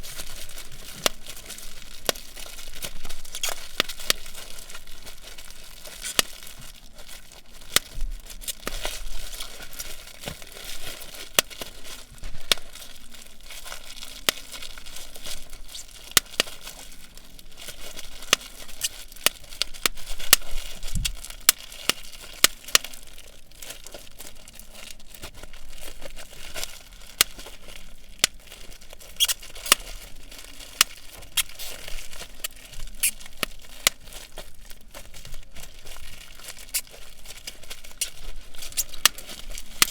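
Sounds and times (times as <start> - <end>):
bubble wrap popping: 0.0 - 39.9
plastic crinkling: 0.0 - 39.9.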